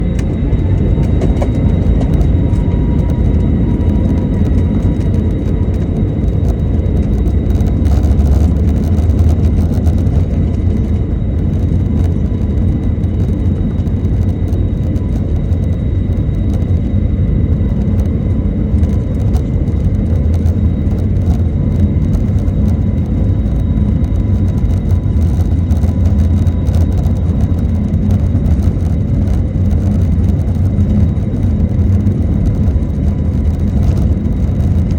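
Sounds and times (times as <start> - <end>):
faint engine whine: 0.0 - 34.9
jet engines rumbling: 0.0 - 34.9.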